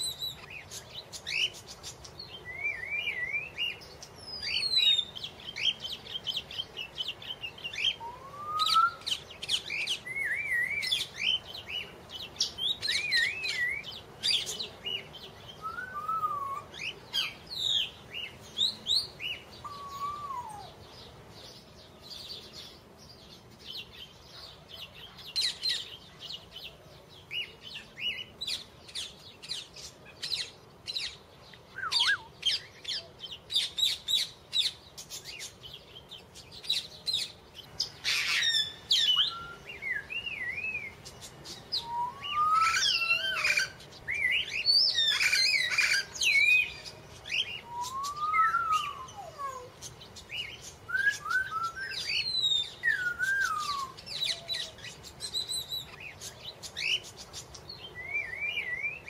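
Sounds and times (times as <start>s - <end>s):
small birds chirping and whistling: 0.0s - 59.0s.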